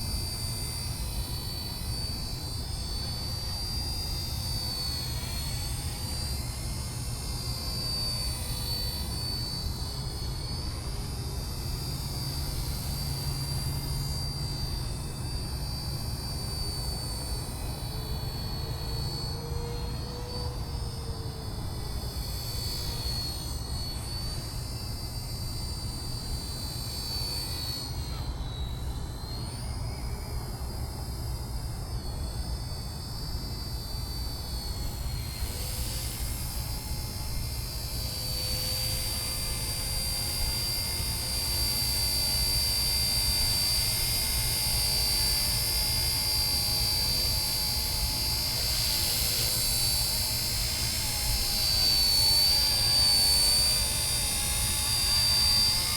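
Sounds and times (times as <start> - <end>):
model helicopter motor whine: 0.0 - 55.9.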